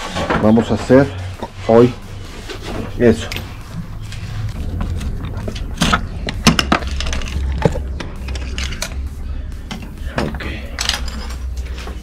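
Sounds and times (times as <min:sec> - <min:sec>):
steady low rumble: 0:01.1 - 0:12.0.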